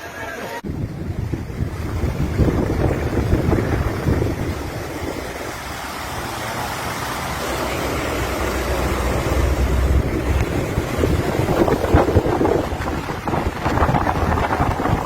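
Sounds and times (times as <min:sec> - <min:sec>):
rushing floodwater: 0:00.6 - 0:15.0
wind buffeting microphone: 0:00.6 - 0:15.0.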